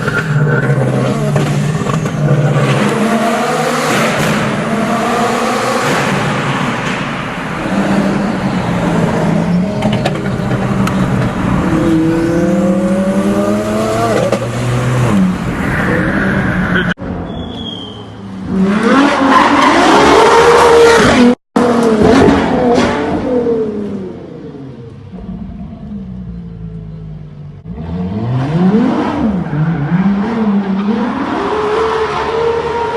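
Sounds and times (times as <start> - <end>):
car engines revving: 0.0 - 17.1, 18.3 - 32.9.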